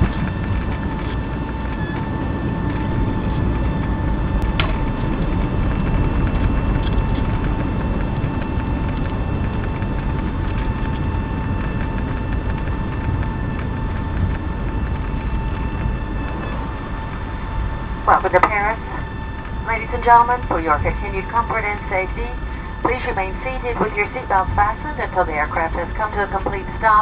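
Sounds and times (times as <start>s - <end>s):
aircraft cabin rumble: 0.0s - 27.0s
high whine: 0.0s - 27.0s.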